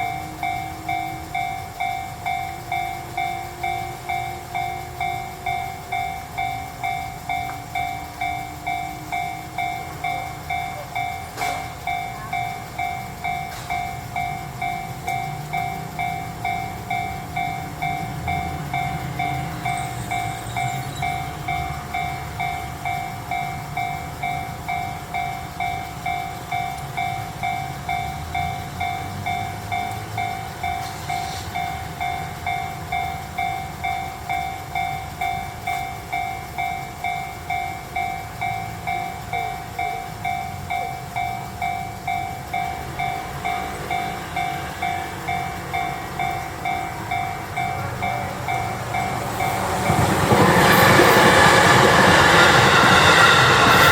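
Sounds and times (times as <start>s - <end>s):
level crossing bell ringing: 0.0s - 53.9s.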